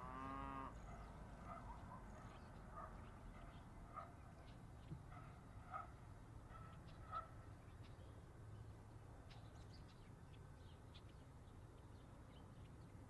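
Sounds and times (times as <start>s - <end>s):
small birds chirping: 0.8s - 13.0s.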